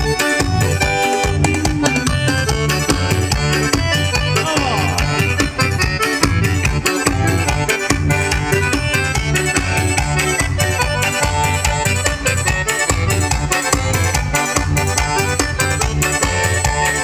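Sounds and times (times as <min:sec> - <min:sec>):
accordion folk music with beat: 0:00.0 - 0:17.0.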